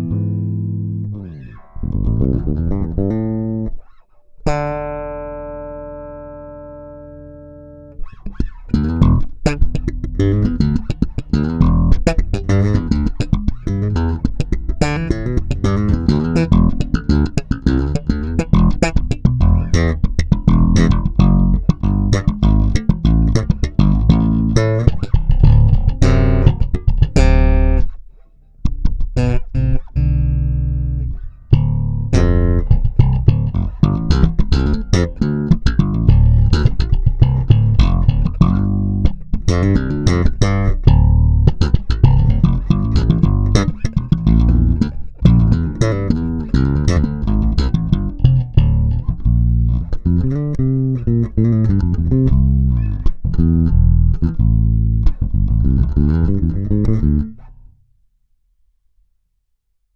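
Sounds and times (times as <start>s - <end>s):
electric bass played fingerstyle: 0.0s - 57.9s.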